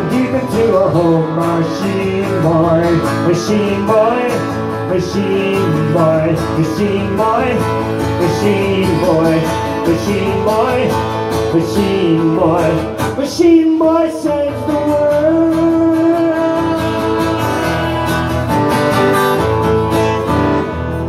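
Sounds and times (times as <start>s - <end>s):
person singing: 0.0s - 18.5s
acoustic guitar strummed: 0.0s - 21.0s.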